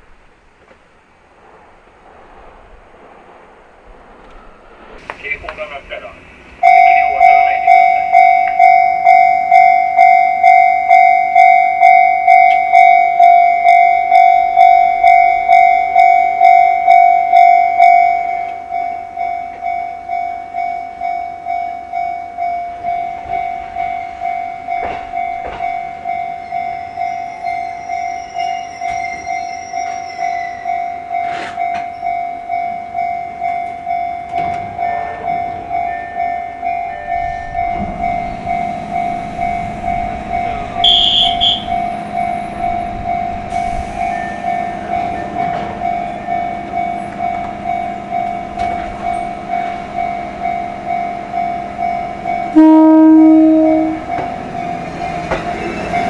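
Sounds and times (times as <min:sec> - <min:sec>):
train rumble: 0:00.0 - 0:56.0
high-pitched train toot: 0:04.4 - 0:56.0
level-crossing warning bell: 0:05.0 - 0:56.0.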